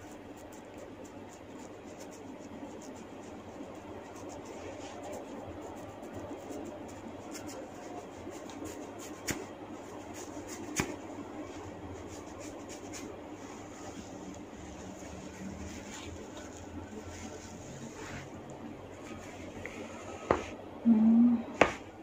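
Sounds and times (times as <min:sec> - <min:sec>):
hands rubbing on skin: 0:00.0 - 0:18.4
steady room hum: 0:00.0 - 0:22.0.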